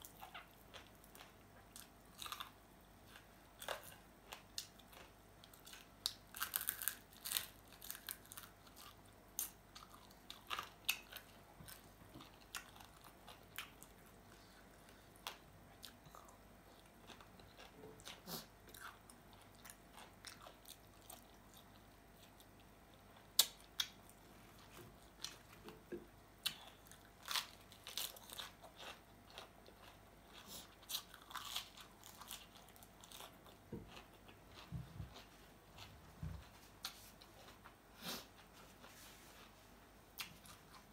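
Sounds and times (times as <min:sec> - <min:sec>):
person chewing crunchy food: 0:00.0 - 0:38.5.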